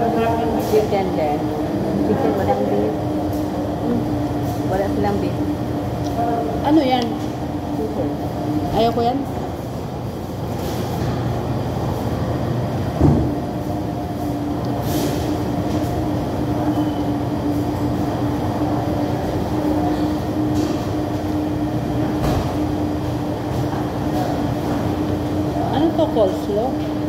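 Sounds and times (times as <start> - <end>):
air conditioning hum: 0.0 - 27.0.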